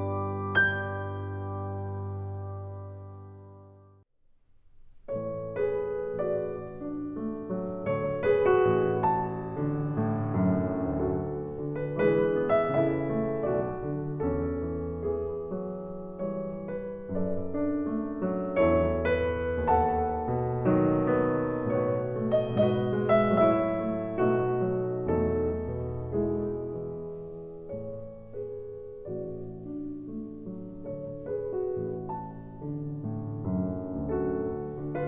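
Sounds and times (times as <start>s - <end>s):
piano music: 0.0s - 4.0s, 5.1s - 35.0s.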